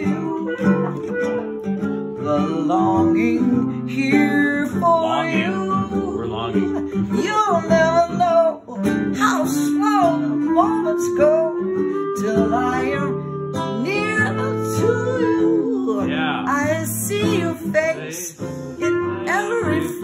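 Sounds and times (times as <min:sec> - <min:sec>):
clarinet melody: 0:00.0 - 0:20.0
strummed acoustic guitar: 0:00.0 - 0:20.0.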